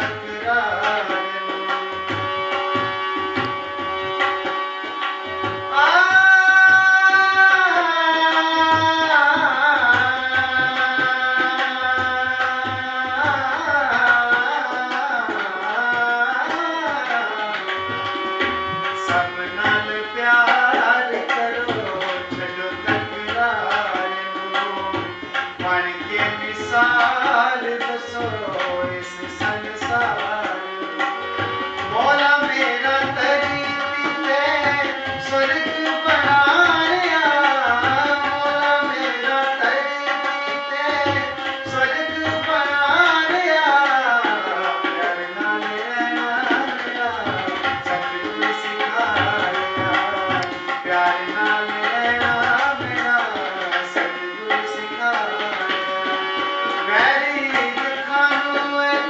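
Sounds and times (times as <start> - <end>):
harmonium chords: 0.0 - 59.0
man singing: 0.0 - 59.0
tabla rhythm: 0.0 - 59.0.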